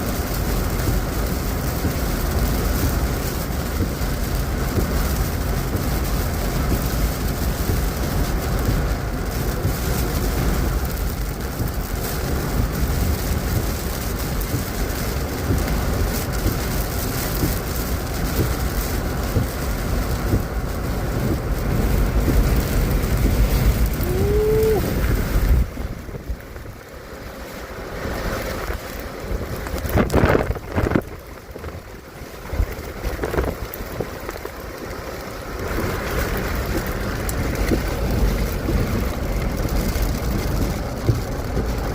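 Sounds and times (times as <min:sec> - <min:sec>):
heavy rain on a car: 0:00.0 - 0:41.9
storm wind: 0:00.0 - 0:41.9.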